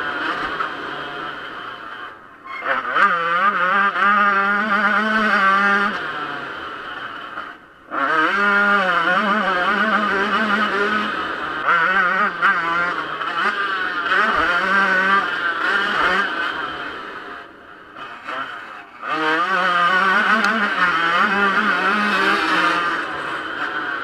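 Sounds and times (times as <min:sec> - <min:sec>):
two-stroke engine revving hard: 0:00.0 - 0:24.0.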